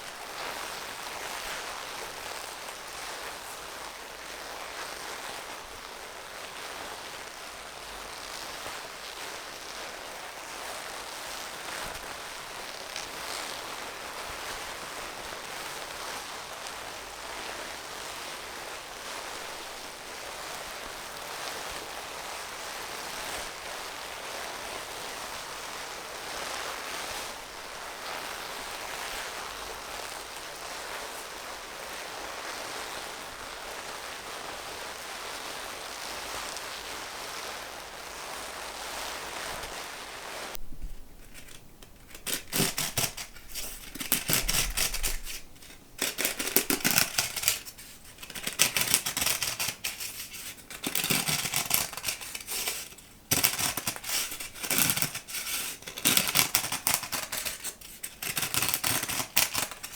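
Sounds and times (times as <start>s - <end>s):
steady hissing noise: 0.0s - 59.9s.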